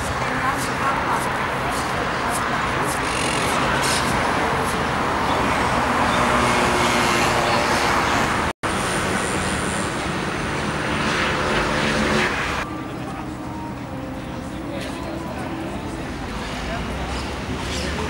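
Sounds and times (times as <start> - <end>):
road traffic going by: 0.0 - 18.0.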